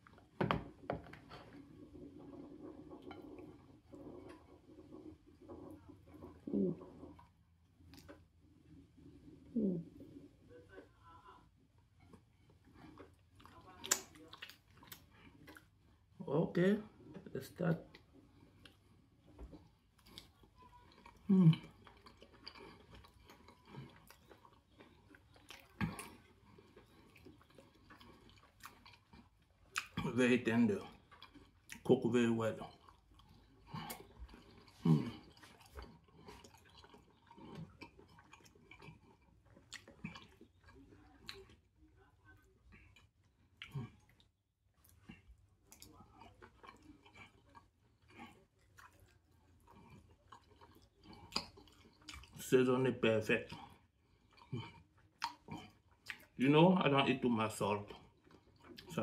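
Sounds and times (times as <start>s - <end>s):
person chewing wetly: 0.0s - 11.0s, 11.6s - 16.3s, 16.9s - 59.0s.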